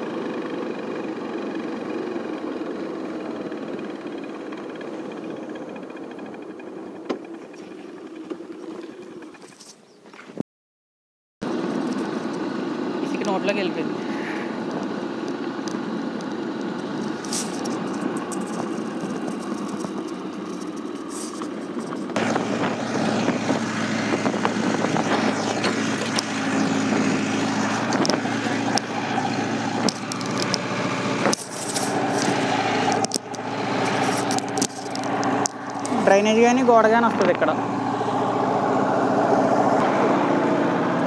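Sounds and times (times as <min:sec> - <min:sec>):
road noise: 0:00.0 - 0:10.4, 0:11.4 - 0:41.0
vehicle engine hum: 0:00.0 - 0:10.4, 0:11.4 - 0:41.0.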